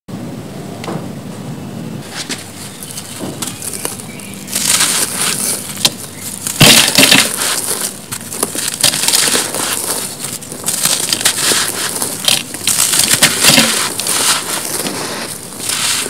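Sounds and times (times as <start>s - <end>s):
cement blocks crumbling by hand: 2.8s - 16.0s.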